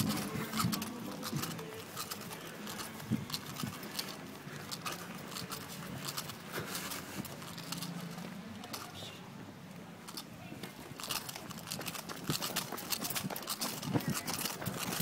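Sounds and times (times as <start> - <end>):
running footsteps on grass: 0.0 - 8.2, 10.9 - 15.0.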